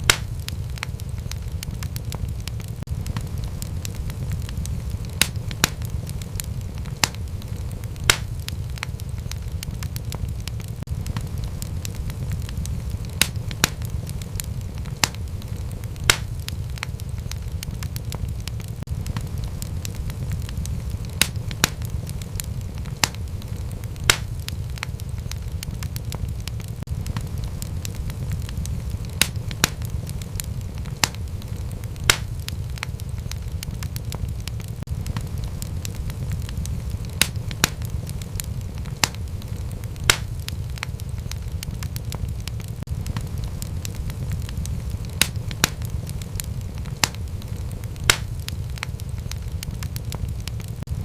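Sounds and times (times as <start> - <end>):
loud wood pops: 0.0 - 3.7, 5.1 - 11.7, 13.1 - 19.7, 22.8 - 45.9, 46.5 - 49.4
low rumble of flames: 0.0 - 51.0
wood fire crackling: 0.0 - 51.0.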